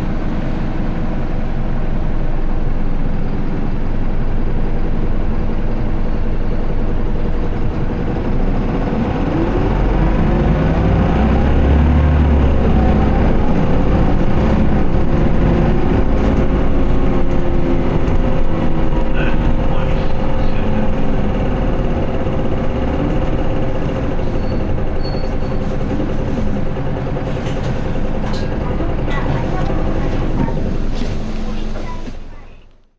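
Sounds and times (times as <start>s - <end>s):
low rumble: 0.0s - 31.5s
bus engine accelerating: 0.0s - 32.9s.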